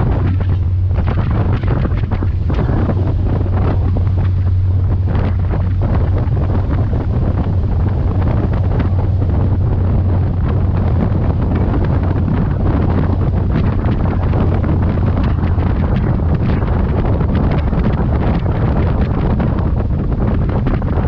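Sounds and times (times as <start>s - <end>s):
low engine drone: 0.0s - 21.0s
wind buffeting microphone: 0.0s - 21.0s.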